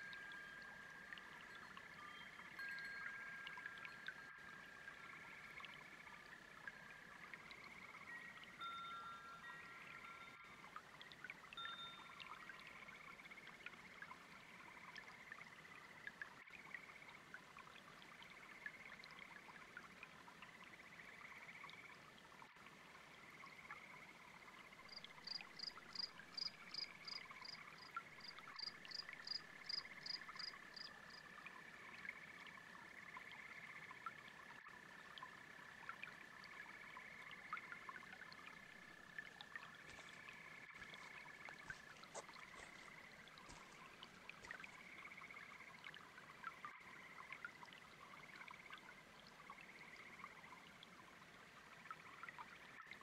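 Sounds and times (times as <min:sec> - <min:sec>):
babbling brook: 0:00.0 - 0:53.0.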